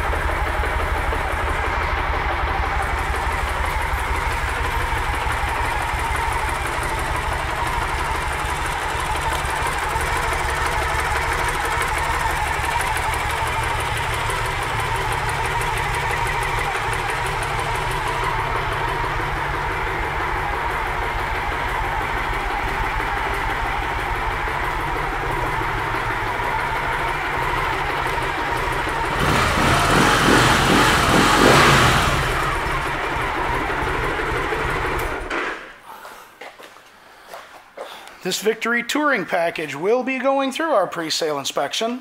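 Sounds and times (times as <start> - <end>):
motorcycle engine idling: 0.0 - 35.3.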